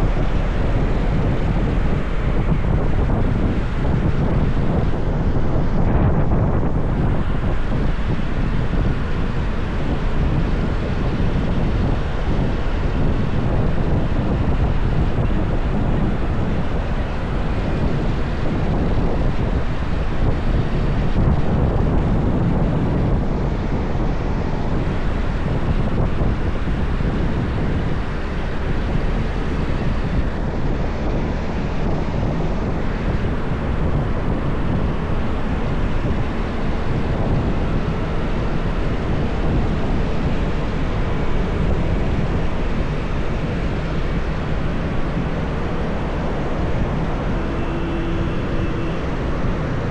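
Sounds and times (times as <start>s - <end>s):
wind noise on microphone: 0.0s - 49.9s.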